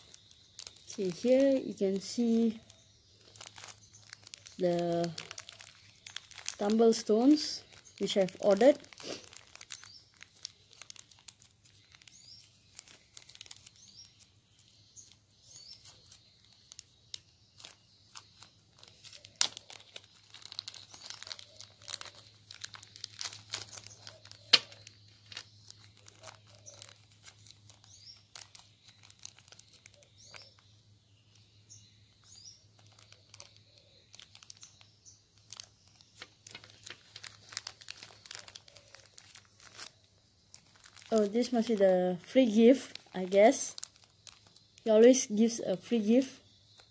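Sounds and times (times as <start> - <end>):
plastic bags crinkling: 0.0 - 46.1
faint bird chirps: 0.0 - 46.9.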